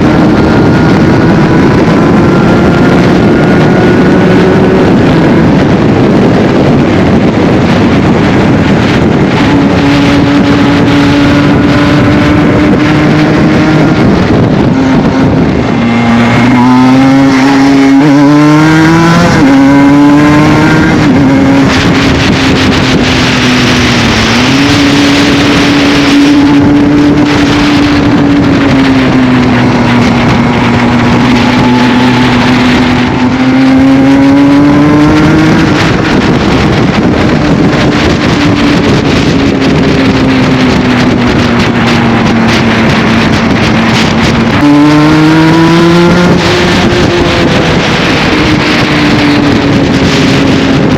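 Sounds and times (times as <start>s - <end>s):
two-stroke motorcycle engine revving: 0.0s - 50.9s.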